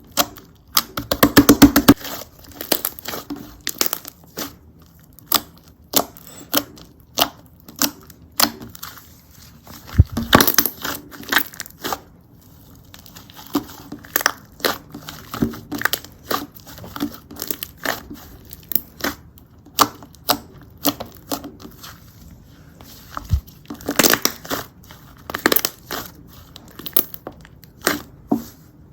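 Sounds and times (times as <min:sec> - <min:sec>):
crackling slime squish: 0:01.9 - 0:28.3.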